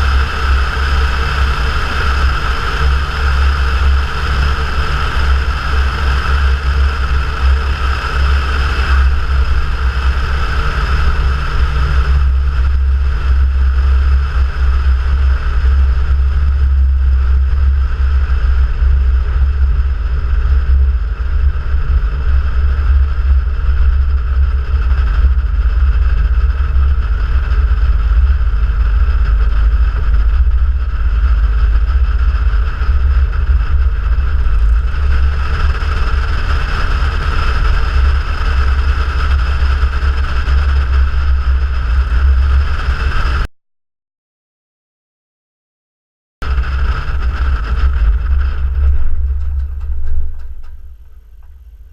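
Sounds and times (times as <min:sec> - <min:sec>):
propeller plane engine drone: 0:00.0 - 0:43.5, 0:46.4 - 0:51.9.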